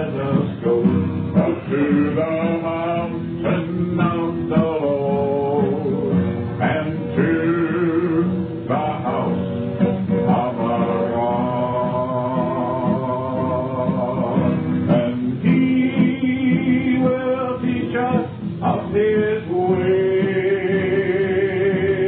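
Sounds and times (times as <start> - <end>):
person singing: 0.0 - 9.5, 10.1 - 22.0
guitar: 0.0 - 22.0.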